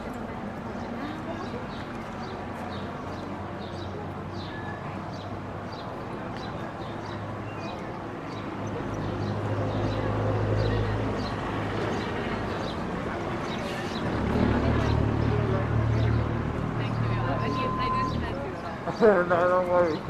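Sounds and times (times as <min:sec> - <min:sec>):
traffic engine hum: 0:00.0 - 0:20.0.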